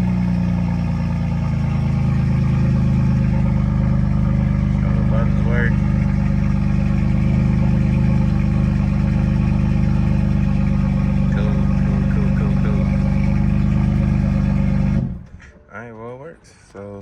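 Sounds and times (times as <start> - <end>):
car engine idling: 0.0 - 15.5.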